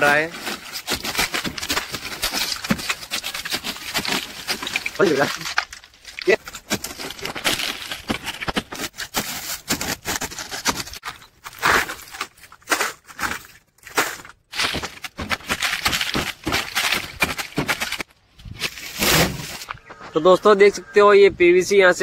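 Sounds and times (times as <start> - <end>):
plastic crunching and scraping: 0.0 - 20.2.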